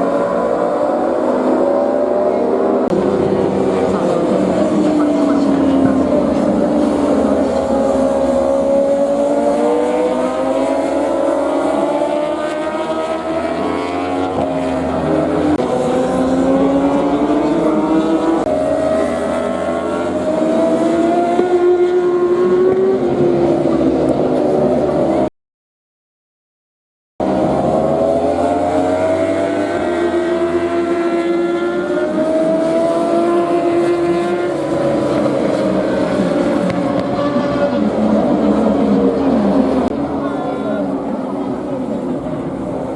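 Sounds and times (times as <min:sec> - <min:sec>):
racing motorcycle engines revving: 0:00.0 - 0:25.3, 0:27.2 - 0:42.9.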